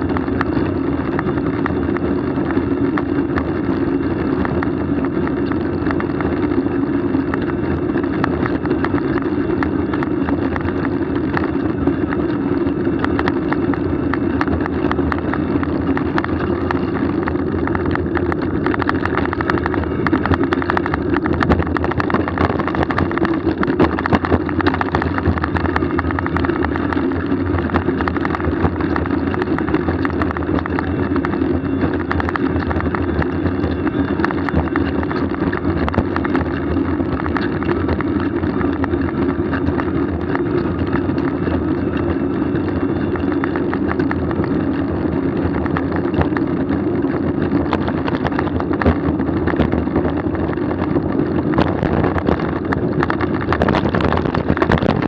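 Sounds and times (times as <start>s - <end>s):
rushing wind: 0.0s - 55.0s
small knocks and rattles: 0.0s - 55.0s.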